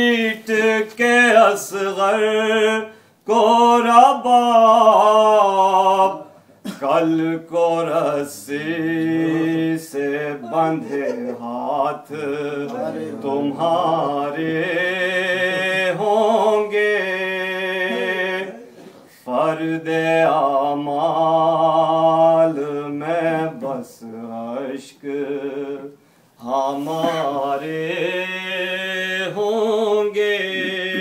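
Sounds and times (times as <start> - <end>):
man singing a lament: 0.0 - 31.0.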